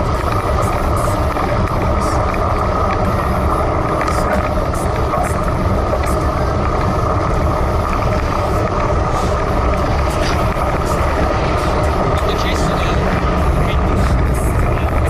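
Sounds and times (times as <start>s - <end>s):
tyre noise on wet road: 0.0s - 15.0s
wind rumbling on microphone: 0.0s - 15.0s.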